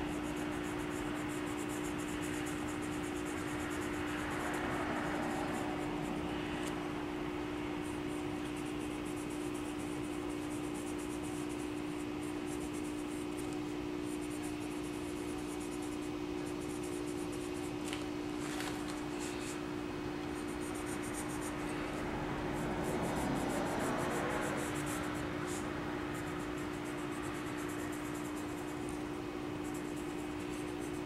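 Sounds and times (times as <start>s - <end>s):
pencil scratching on paper: 0.0s - 7.0s, 7.6s - 19.6s, 20.2s - 31.0s
steady low hum: 0.0s - 31.0s.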